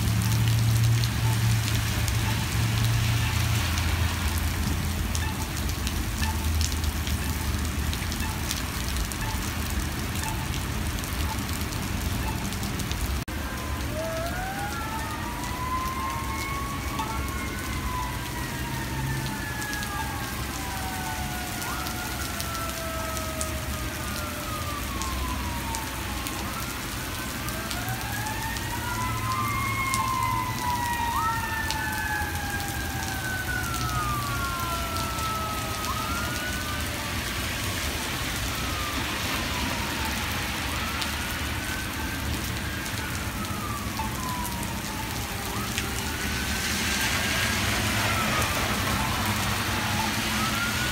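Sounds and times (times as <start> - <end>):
emergency vehicle siren wailing: 0.0 - 50.9
heavy rain on pavement: 0.0 - 50.9.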